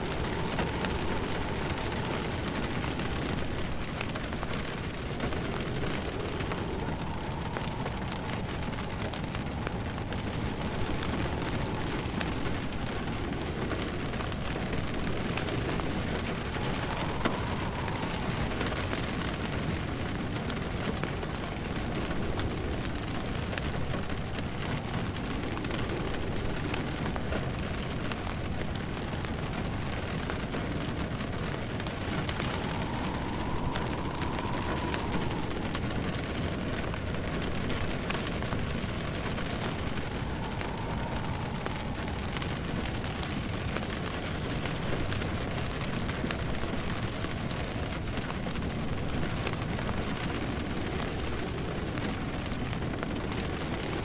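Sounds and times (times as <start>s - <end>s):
faint wavering whistle: 0.0s - 27.2s, 31.2s - 52.2s
steady rain hiss: 0.0s - 54.0s
wood fire crackling: 0.0s - 54.0s.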